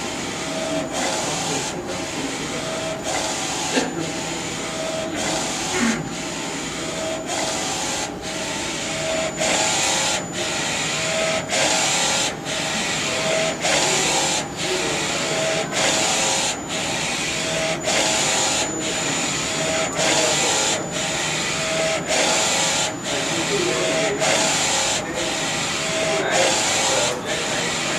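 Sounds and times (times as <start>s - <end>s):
printer motor whine: 0.0s - 27.9s.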